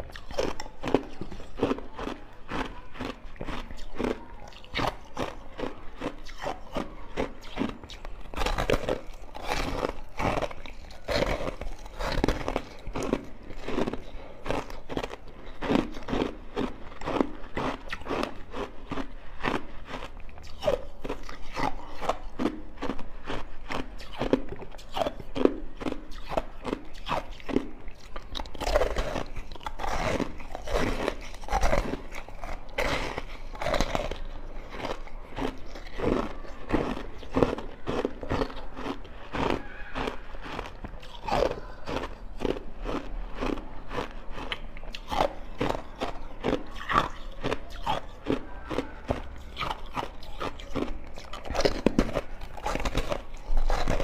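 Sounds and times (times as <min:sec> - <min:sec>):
frozen ice being chewed: 0:00.0 - 0:54.0.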